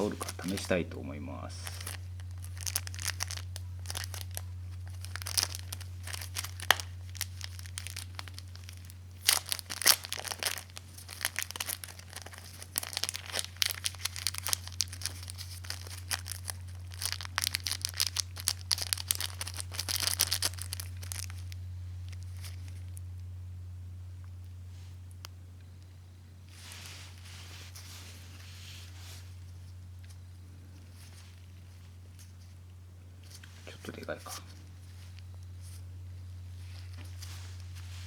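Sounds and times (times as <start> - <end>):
packaging crinkling: 0.0 - 23.2, 26.5 - 32.5, 33.2 - 38.0
steady low hum: 0.0 - 38.0.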